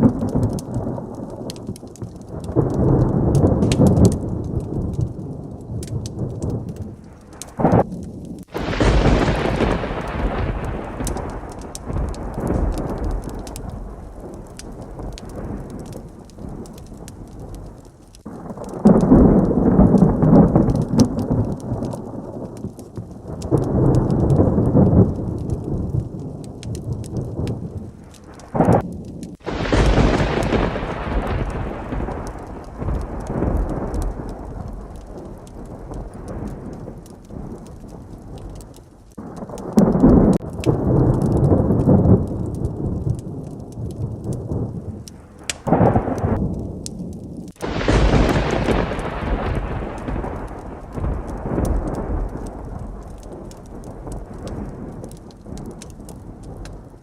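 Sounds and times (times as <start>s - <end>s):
heavy rain: 0.0s - 57.0s
rolling thunder rumbles: 0.0s - 57.0s
sharp close thunderclap: 0.0s - 57.0s.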